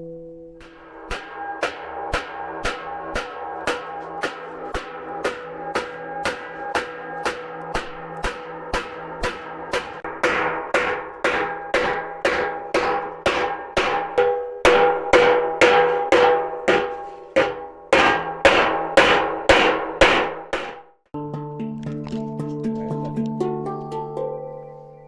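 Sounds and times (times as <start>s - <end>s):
hammer blows on steel shell: 0.5s - 20.9s.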